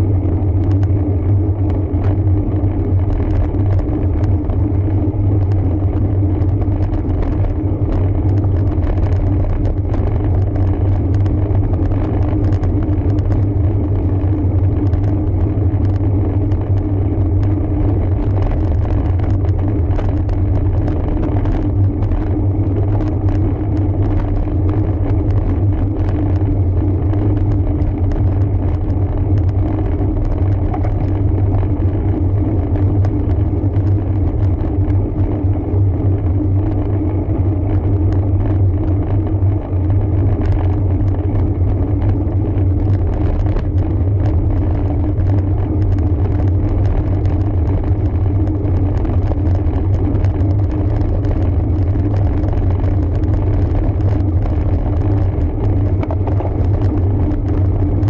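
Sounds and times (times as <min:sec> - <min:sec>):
wind and road noise from bike: 0:00.0 - 0:58.0.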